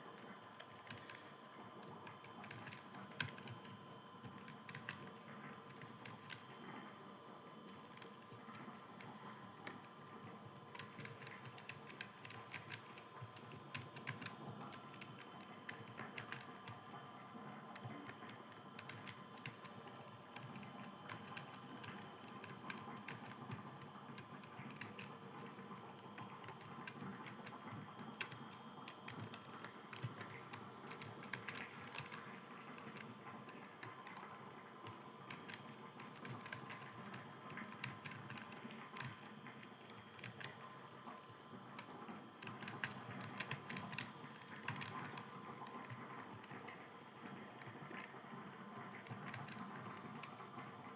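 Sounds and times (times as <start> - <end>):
typing on computer keyboard: 0.6 - 6.6, 7.7 - 16.9, 17.7 - 50.8.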